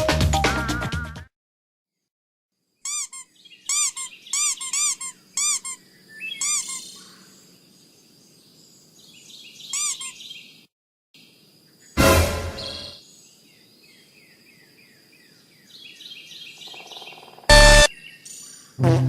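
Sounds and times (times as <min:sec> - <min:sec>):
faint outdoor background noise: 0:02.6 - 0:12.0, 0:13.0 - 0:19.0
bird chirping: 0:02.8 - 0:12.0, 0:12.6 - 0:18.8.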